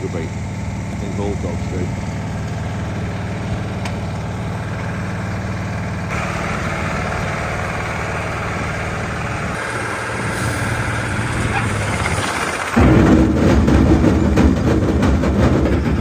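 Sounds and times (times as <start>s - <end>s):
machine engine hum: 0.0s - 16.0s.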